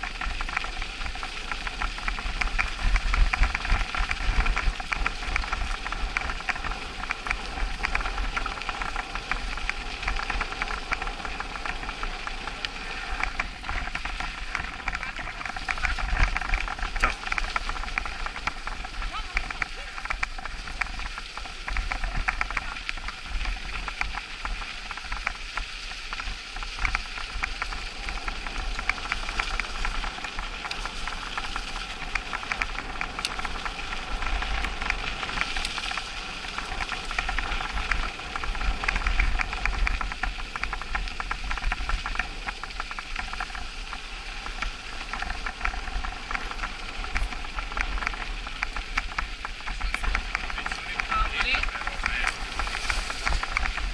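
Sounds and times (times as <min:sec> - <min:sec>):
bike clicks and rattles: 0:00.0 - 0:53.9
bike tyres crunching on snow: 0:00.0 - 0:53.9
wind rumble on microphone: 0:00.0 - 0:53.9.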